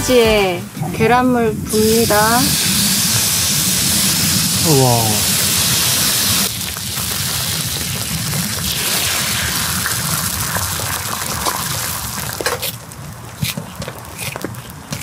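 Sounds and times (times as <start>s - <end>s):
egg sizzling in a pan: 1.6s - 14.2s.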